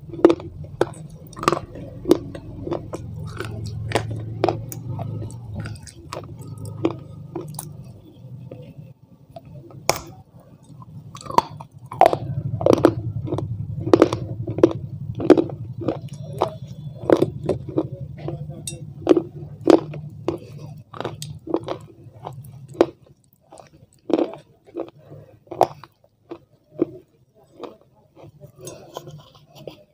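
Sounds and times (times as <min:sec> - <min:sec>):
wet crunchy chewing and biting: 0:00.0 - 0:08.6, 0:09.5 - 0:29.2
steady low hum: 0:00.0 - 0:25.5.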